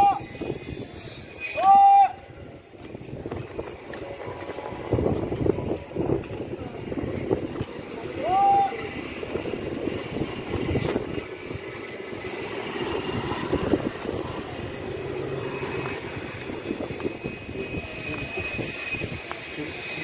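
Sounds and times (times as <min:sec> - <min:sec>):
cars driving past: 0:03.1 - 0:19.5.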